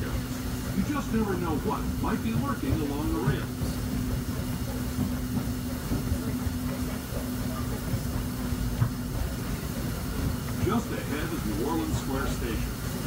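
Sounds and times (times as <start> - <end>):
steady hum: 0.0 - 13.0
train wheels rumbling on rails: 0.0 - 13.0
wheel clacks: 0.0 - 13.0.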